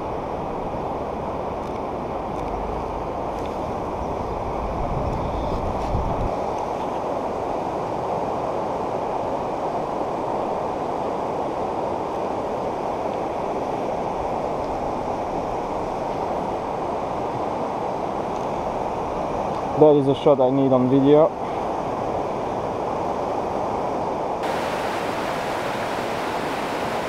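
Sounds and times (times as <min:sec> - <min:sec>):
river rushing: 0:00.0 - 0:05.0, 0:05.6 - 0:20.5, 0:21.3 - 0:27.0.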